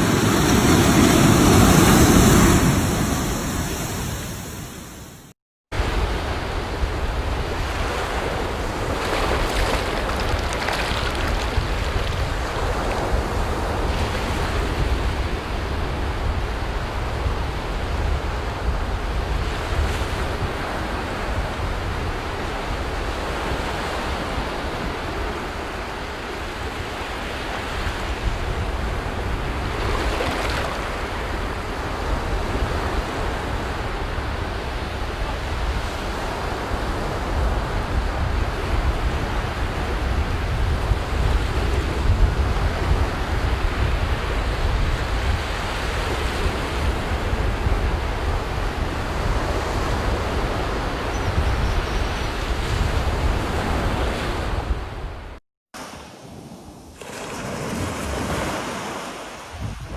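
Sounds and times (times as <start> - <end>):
wind on microphone: 0.0 - 55.4, 59.4 - 59.9
waves breaking on a beach: 0.0 - 59.9.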